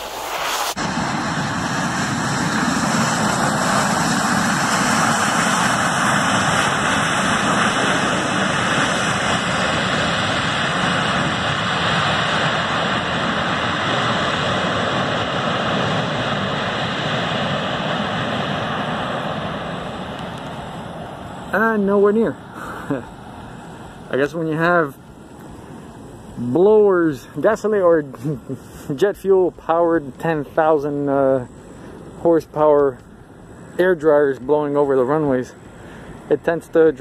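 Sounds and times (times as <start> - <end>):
jet engine roar: 0.0 - 37.0.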